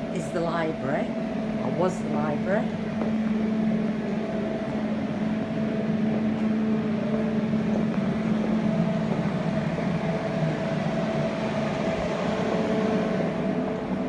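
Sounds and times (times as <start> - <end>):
dehumidifiers humming: 0.0 - 14.0.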